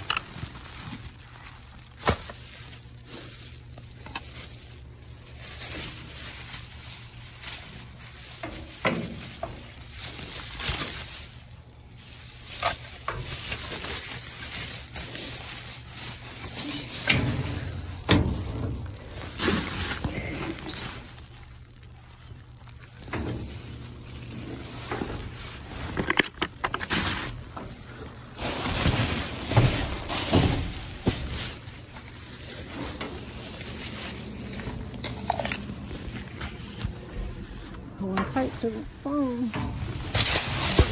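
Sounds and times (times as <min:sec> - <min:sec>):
plastic bags rustling: 0:00.0 - 0:40.9.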